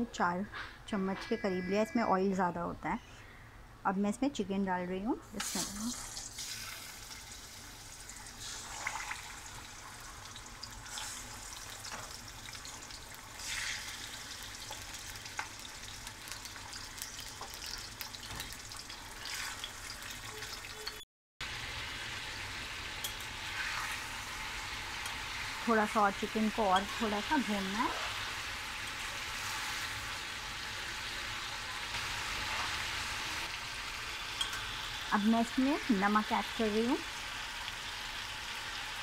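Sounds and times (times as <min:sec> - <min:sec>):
chicken sizzling in hot oil: 0:05.4 - 0:39.0.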